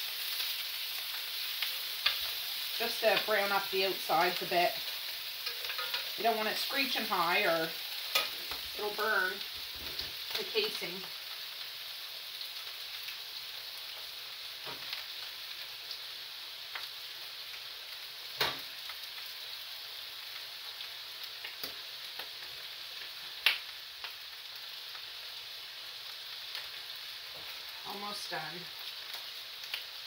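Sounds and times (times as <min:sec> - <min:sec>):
sausages sizzling in a frying pan: 0:00.0 - 0:30.0.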